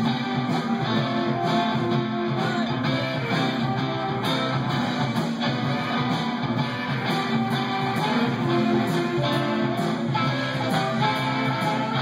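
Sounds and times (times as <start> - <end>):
bass guitar: 0.0 - 12.0
electric guitars: 0.0 - 12.0
steady drum beat: 0.0 - 12.0.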